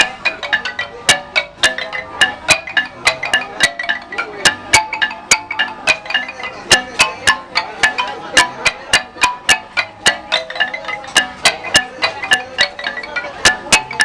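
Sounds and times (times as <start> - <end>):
marimba played with mallets: 0.0 - 14.0.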